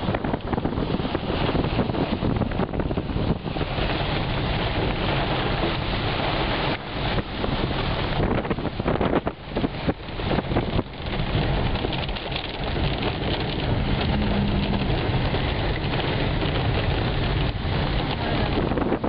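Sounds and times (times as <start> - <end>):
hail and heavy rain pelting: 0.0 - 19.0.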